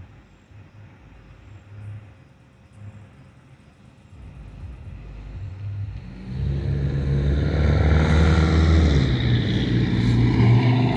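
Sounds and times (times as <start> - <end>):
diesel locomotive engine drone: 0.0 - 10.9.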